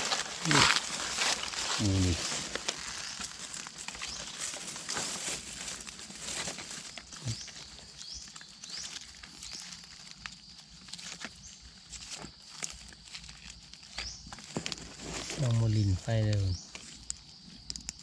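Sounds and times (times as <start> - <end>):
footsteps in dry leaves: 0.0 - 17.0.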